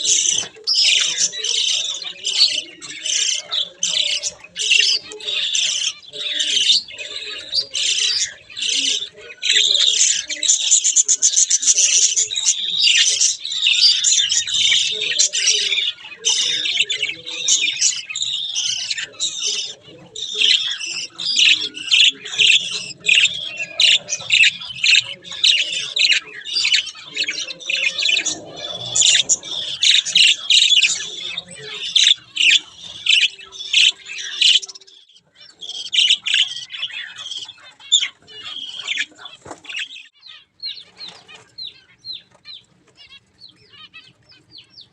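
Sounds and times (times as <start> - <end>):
budgerigars chirping and chattering: 0.0 - 44.9.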